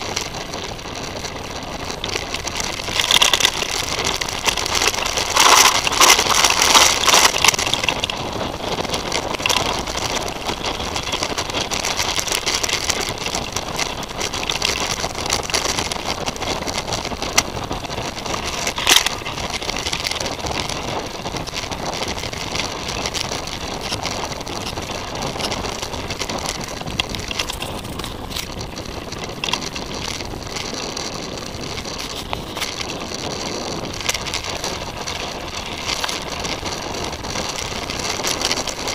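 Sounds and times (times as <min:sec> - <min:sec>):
bike rattling with clicks: 0:00.0 - 0:38.9
bike tyres rolling on dirt: 0:00.0 - 0:38.9.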